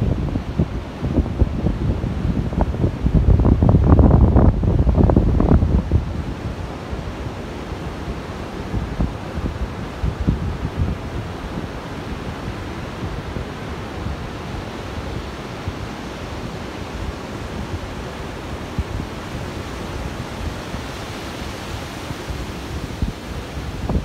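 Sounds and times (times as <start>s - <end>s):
ocean surf breaking on beach: 0.0s - 24.0s
wind rumbling on microphone: 0.0s - 24.0s.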